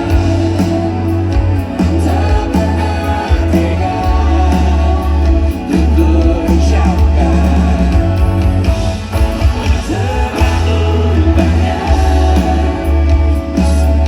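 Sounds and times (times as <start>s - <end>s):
person singing: 0.0s - 8.7s, 9.4s - 14.0s
live pop band: 0.0s - 14.0s.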